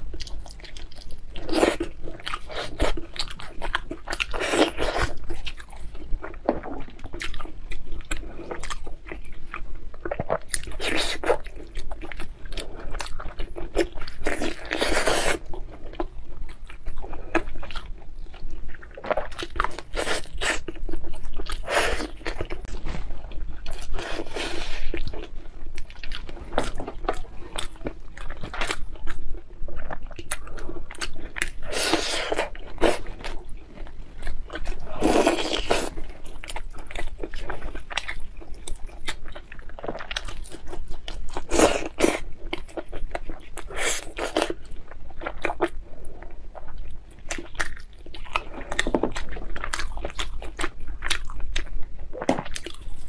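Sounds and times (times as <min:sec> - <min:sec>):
person chewing meat: 0:00.0 - 0:53.0.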